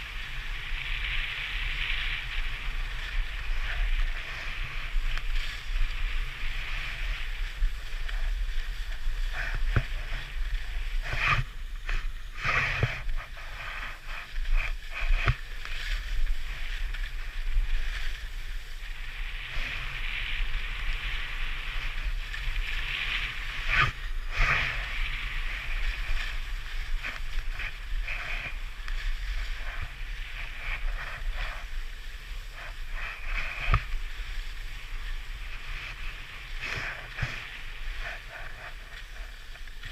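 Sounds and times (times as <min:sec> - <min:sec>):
skis scraping on snow: 0:00.0 - 0:39.9
wind on microphone: 0:00.0 - 0:39.9.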